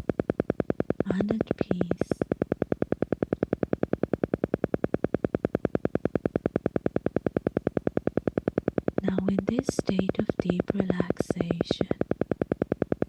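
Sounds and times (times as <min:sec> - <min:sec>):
pulsing electronic tone: 0:00.0 - 0:13.0.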